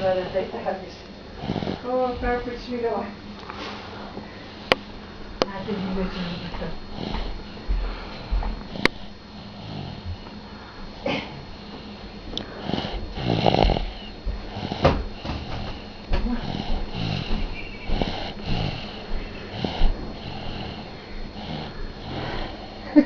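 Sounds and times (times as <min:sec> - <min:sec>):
baby snoring: 0:01.4 - 0:03.0, 0:05.4 - 0:10.3, 0:11.0 - 0:23.0.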